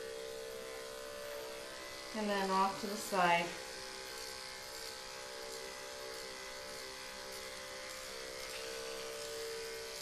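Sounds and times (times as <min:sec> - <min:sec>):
electric clippers buzzing: 0:00.0 - 0:10.0.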